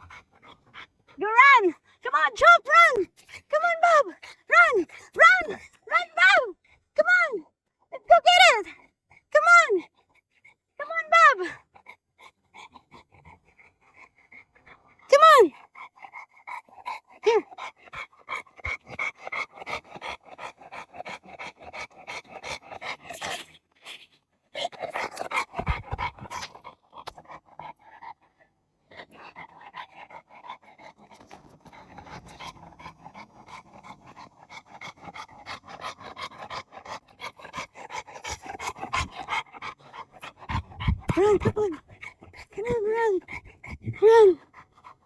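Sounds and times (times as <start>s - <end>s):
dog panting rapidly: 0.0s - 6.2s, 8.2s - 23.6s, 24.6s - 45.0s.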